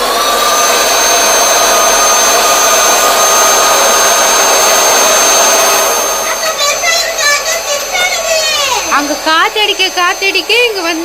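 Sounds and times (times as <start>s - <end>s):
electric air pump running: 0.0s - 11.0s.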